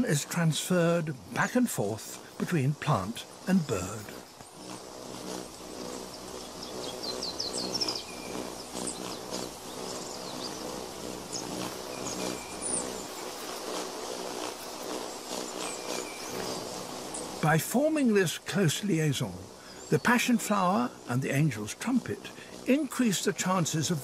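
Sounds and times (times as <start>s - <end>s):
hummingbird wings humming: 0.0s - 24.0s.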